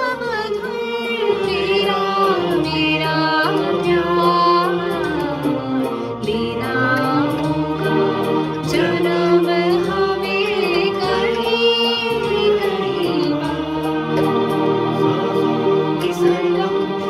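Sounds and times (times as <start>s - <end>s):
song with singing and percussion: 0.0s - 17.0s.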